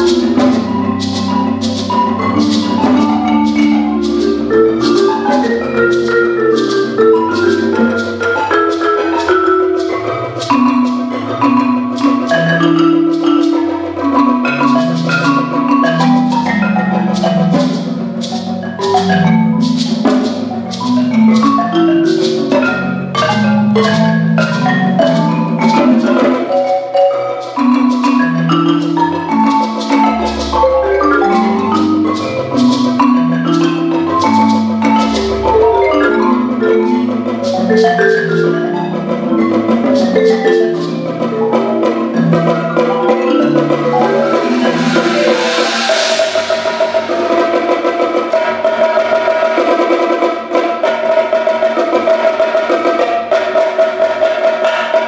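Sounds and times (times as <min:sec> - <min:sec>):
fast percussion strokes: 0:00.0 - 0:55.0
marimba rolled chords: 0:00.0 - 0:55.0.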